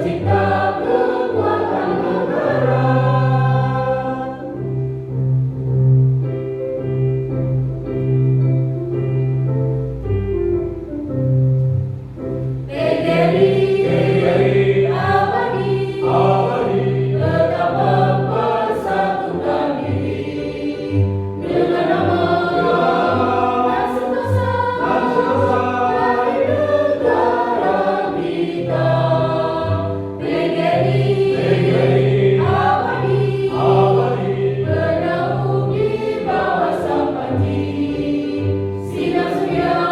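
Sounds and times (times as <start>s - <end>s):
choir singing in parts: 0.0s - 4.8s, 12.7s - 39.9s
instrumental accompaniment with bass: 0.0s - 39.9s.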